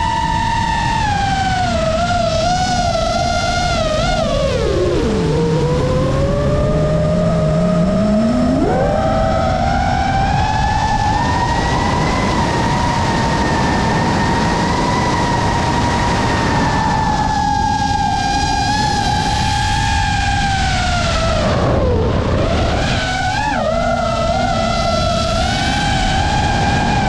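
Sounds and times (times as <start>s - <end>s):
drone motors whining: 0.0s - 27.0s
steady rushing noise: 0.0s - 27.0s.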